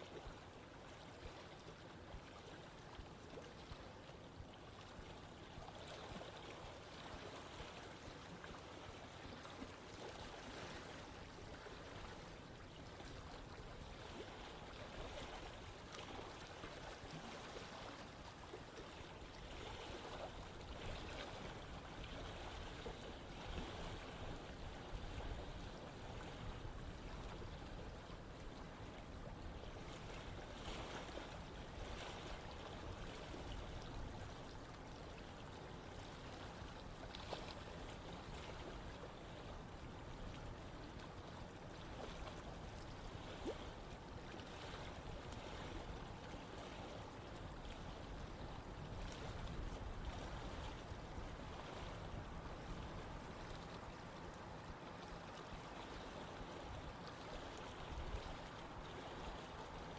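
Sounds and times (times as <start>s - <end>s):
stream flowing: 0.0s - 59.9s
water splashes and gurgles: 0.0s - 59.9s.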